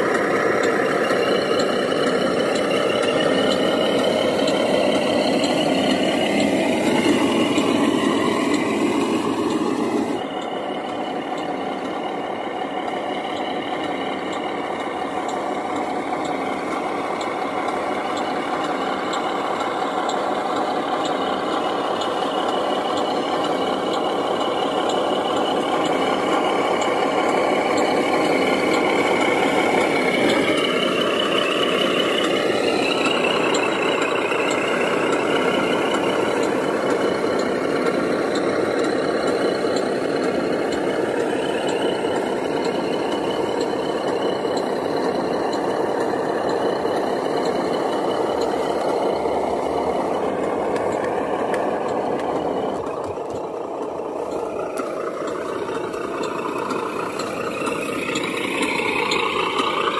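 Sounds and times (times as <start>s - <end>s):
toy truck drive whining: 0.0s - 59.9s.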